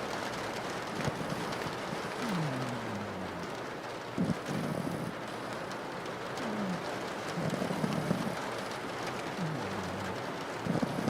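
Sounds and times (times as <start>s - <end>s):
rain pattering on a window: 0.0s - 11.0s.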